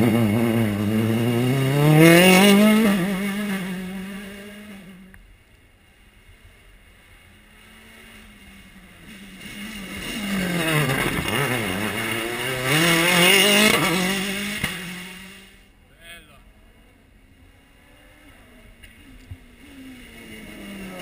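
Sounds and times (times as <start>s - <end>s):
rally car engine passing: 0.0s - 5.2s, 6.4s - 15.7s, 16.5s - 21.0s.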